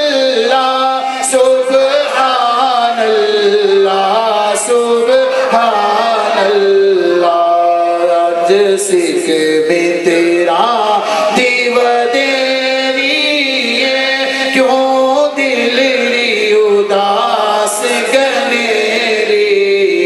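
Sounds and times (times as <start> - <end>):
man singing devotional verse: 0.0 - 20.0.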